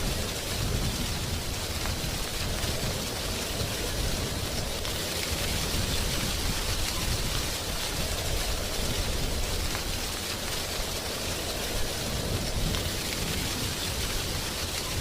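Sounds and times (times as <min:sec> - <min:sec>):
wind rustling leaves: 0:00.0 - 0:15.0.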